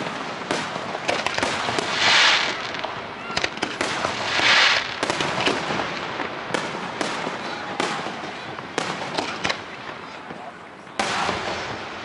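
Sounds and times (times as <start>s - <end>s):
fireworks bangs and pops: 0.0s - 12.0s
steady noisy haze: 0.0s - 12.0s.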